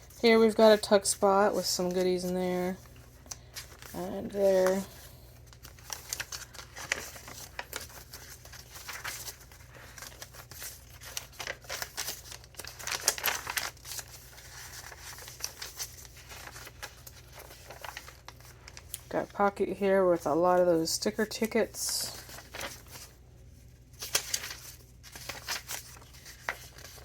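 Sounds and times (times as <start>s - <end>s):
paper pages rustling and crinkling: 0.0s - 19.5s, 20.7s - 27.0s.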